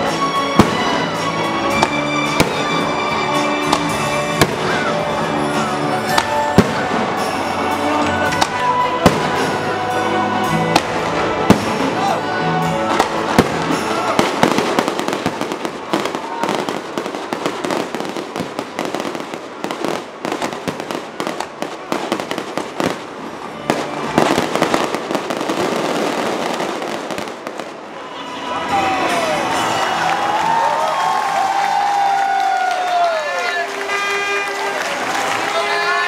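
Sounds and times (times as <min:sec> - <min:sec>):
fireworks crackling: 0:00.0 - 0:36.0
music: 0:00.0 - 0:36.0
fireworks bangs: 0:00.1 - 0:29.8.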